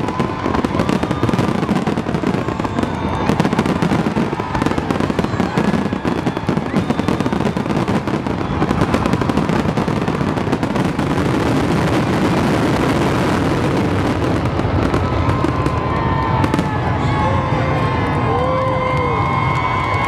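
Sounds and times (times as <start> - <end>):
fireworks booming and crackling: 0.0 - 18.2.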